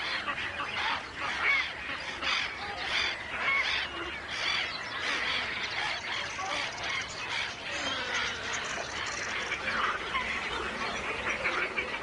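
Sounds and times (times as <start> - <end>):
gulls and terns calling: 0.0 - 12.0.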